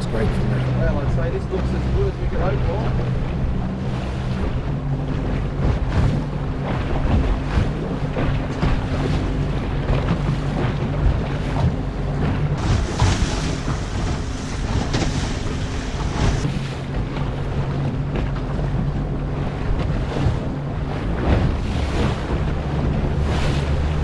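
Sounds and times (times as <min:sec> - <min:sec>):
outboard motor running: 0:00.0 - 0:24.0
water rushing past hull: 0:00.0 - 0:24.0
wind buffeting microphone: 0:00.0 - 0:24.0.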